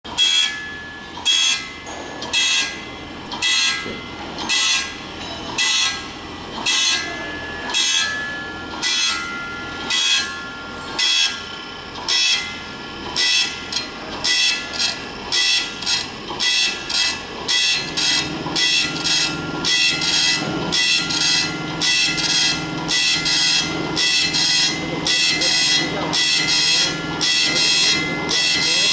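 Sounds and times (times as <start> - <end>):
steady machine hum: 0.1 - 28.9.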